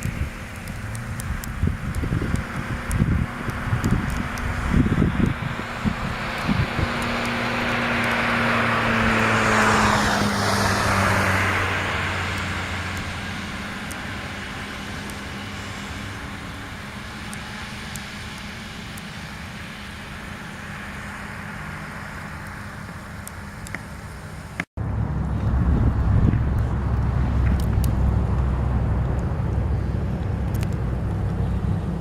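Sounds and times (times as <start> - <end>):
distant road noise: 0.0 - 32.0
vehicle passing close by: 0.0 - 32.0.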